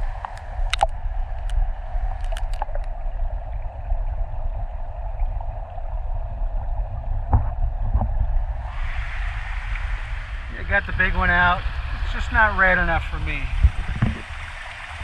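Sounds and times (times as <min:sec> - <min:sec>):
muffled underwater river rushing: 0:00.0 - 0:15.0.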